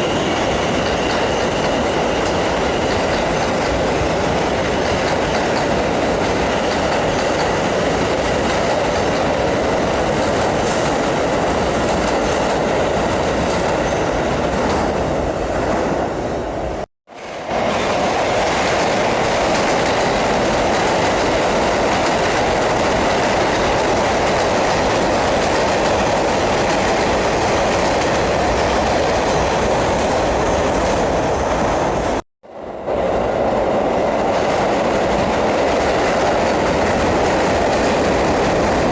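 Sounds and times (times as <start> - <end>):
subway train wheels rumbling: 0.0 - 38.9.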